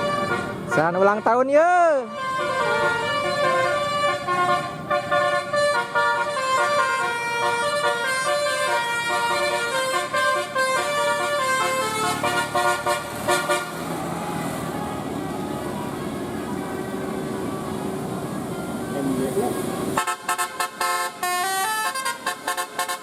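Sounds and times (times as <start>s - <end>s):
tuned air horns playing melody: 0.0s - 23.0s.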